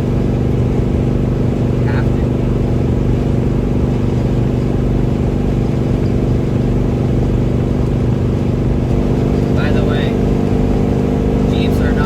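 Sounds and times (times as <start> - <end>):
engine drone: 0.0 - 12.0
road noise: 0.0 - 12.0.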